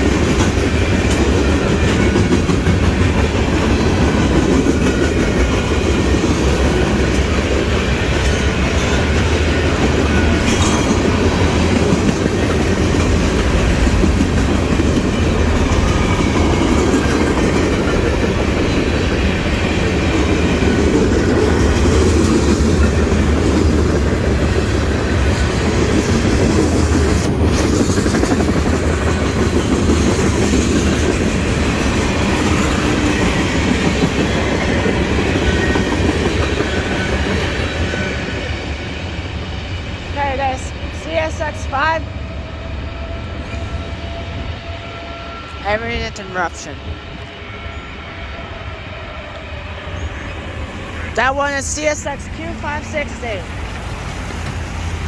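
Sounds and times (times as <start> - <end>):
freight train wheels clattering: 0.0 - 40.1, 49.2 - 55.0.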